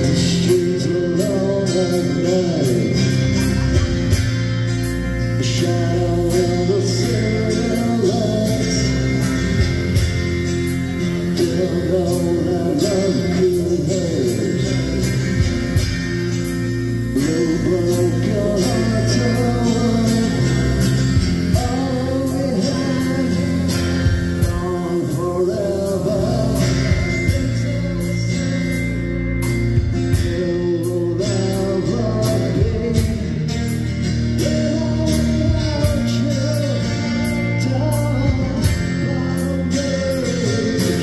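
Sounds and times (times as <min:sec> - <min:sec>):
live rock band music: 0:00.0 - 0:41.0.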